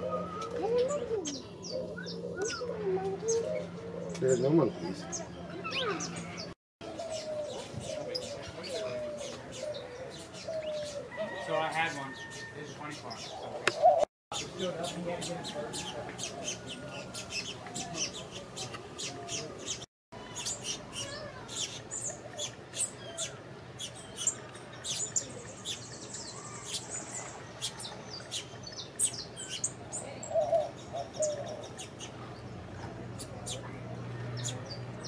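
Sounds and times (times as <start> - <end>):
songbirds chirping: 0.0 - 35.0.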